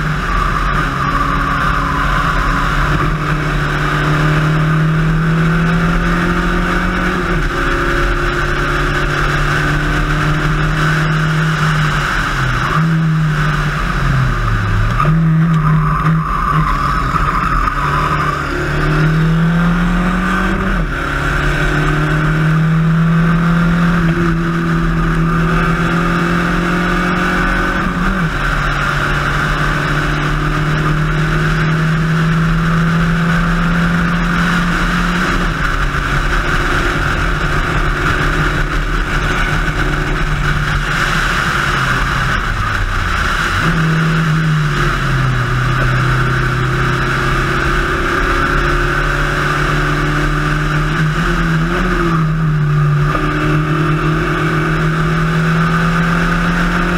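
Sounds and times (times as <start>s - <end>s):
race car engine: 0.0s - 56.9s
wind and road noise: 0.0s - 56.9s.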